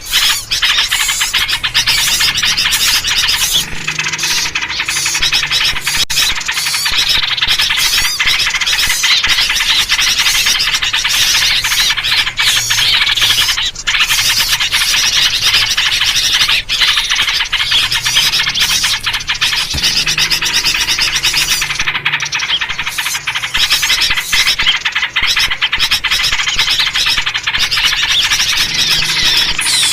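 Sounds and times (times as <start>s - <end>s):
chorus of small birds chattering: 0.0s - 29.9s.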